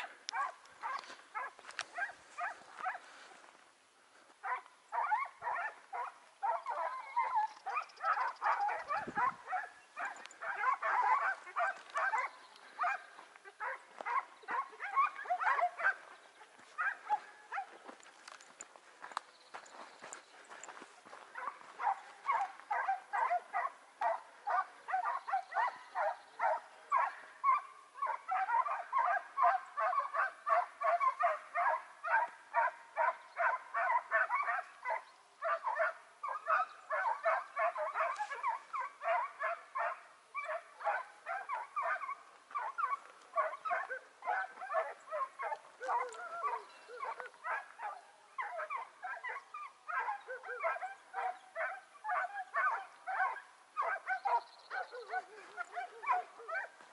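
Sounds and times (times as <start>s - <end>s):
hounds yelping: 0.0s - 3.5s, 4.1s - 56.9s.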